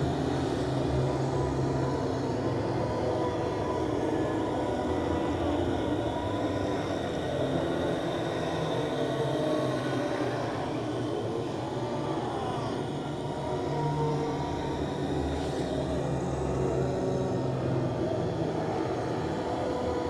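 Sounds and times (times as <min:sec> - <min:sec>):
ghost moan drone: 0:00.0 - 0:20.0.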